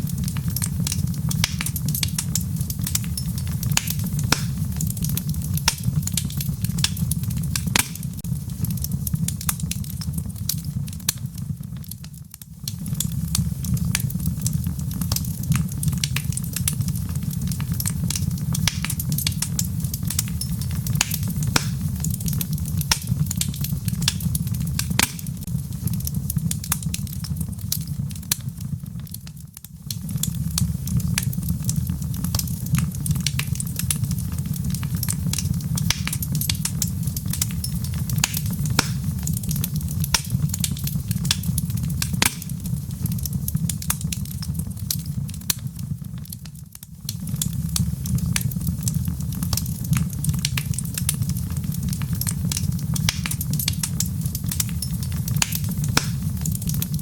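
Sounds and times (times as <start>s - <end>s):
fire crackling and popping: 0.0s - 57.0s
fire flame rumbling: 0.0s - 57.0s.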